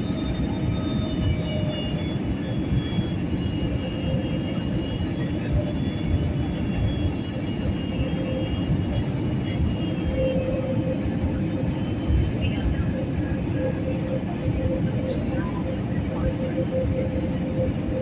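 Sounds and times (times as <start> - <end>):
jet airliner cabin rumble: 0.0 - 18.0.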